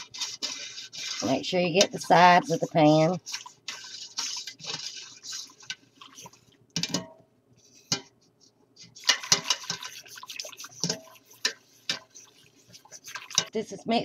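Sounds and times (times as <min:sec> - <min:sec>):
liquid sloshing: 0:00.0 - 0:07.1, 0:08.9 - 0:13.6
whisk scraping metal pot: 0:00.0 - 0:08.2, 0:08.8 - 0:14.0.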